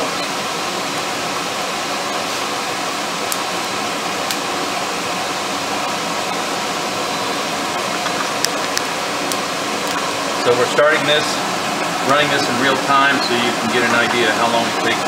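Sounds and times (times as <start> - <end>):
forge blower rushing air: 0.0 - 15.0.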